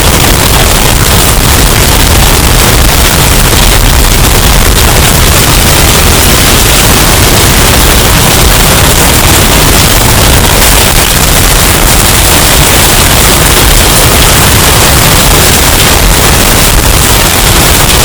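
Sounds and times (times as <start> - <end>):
distorted hurricane wind: 0.0 - 18.0.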